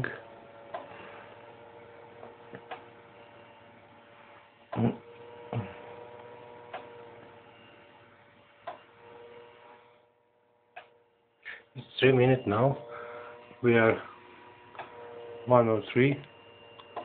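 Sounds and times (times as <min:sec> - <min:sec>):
electrical hum of heaters and fan: 0:00.0 - 0:09.9, 0:10.5 - 0:17.0.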